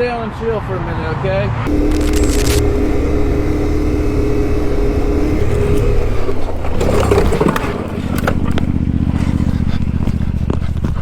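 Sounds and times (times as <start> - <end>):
motorcycle engine running: 1.7 - 11.0.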